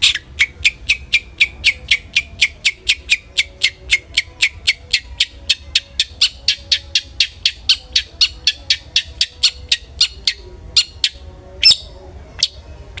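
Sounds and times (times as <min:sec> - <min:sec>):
bird harsh scratchy calls: 0:00.0 - 0:11.8.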